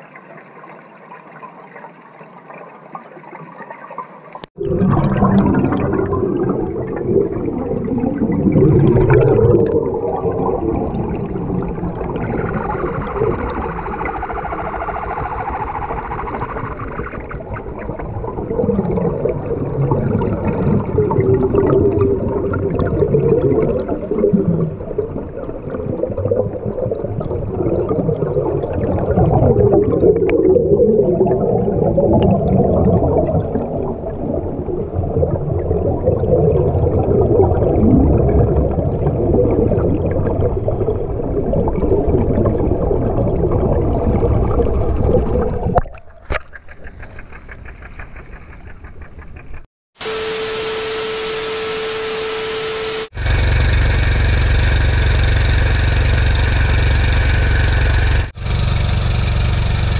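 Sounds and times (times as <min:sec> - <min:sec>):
underwater churning and bubbles: 0:00.0 - 0:50.3, 0:53.1 - 0:59.9.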